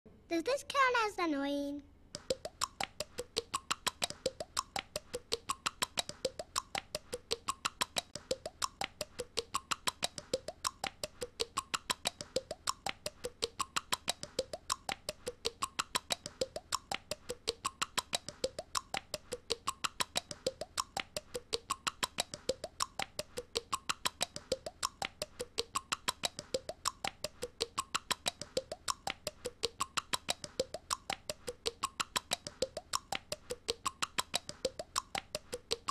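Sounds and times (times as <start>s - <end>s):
girl's tongue clicks: 2.2s - 35.9s.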